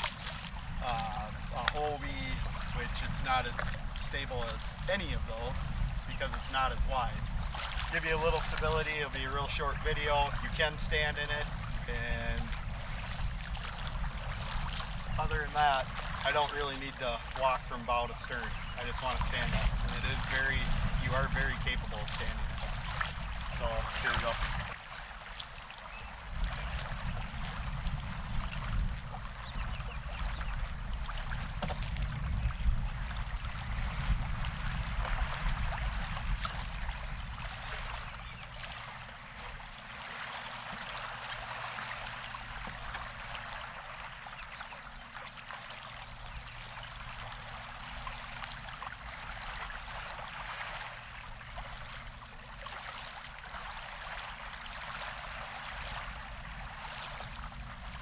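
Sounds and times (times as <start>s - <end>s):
wind rumble on microphone: 0.0s - 44.4s, 45.8s - 58.0s
lake waves lapping at shore: 0.0s - 58.0s.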